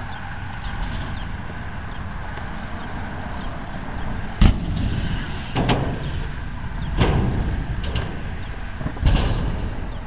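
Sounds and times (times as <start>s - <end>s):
bike rolling rumble: 0.0s - 10.0s.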